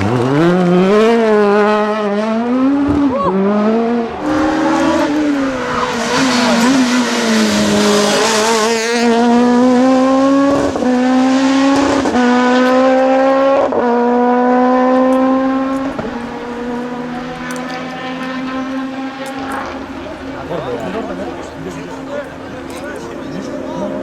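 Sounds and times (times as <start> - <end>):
rally car engine accelerating: 0.0 - 24.0.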